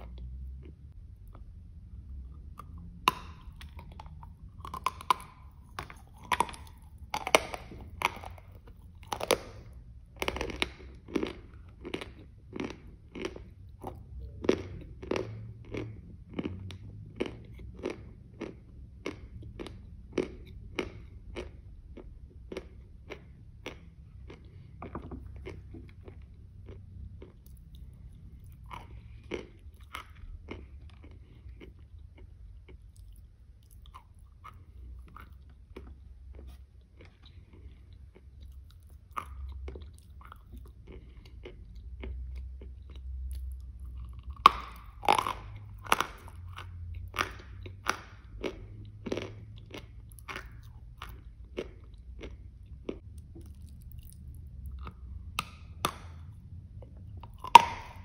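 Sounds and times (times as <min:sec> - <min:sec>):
chewing: 0:02.2 - 0:58.0.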